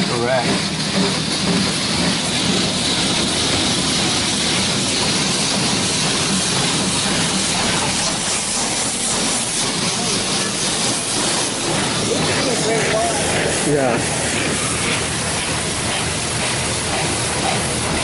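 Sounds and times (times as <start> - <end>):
water jets spraying on car: 1.2 - 18.0.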